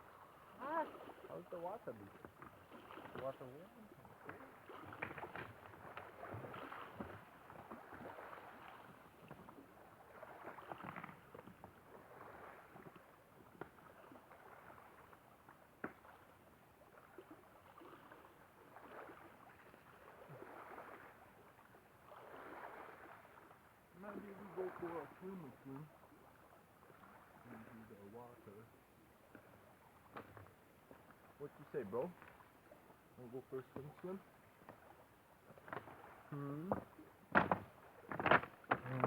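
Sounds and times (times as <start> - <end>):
water lapping on rocky shore: 0.0 - 39.0.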